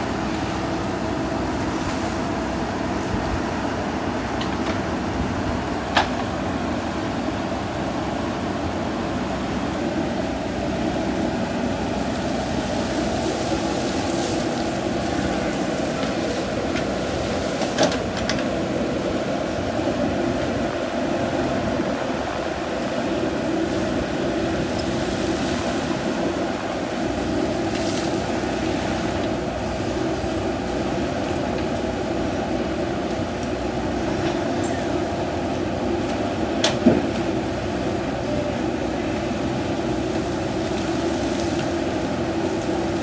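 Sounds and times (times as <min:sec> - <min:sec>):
diesel engine running under load: 0:00.0 - 0:43.0.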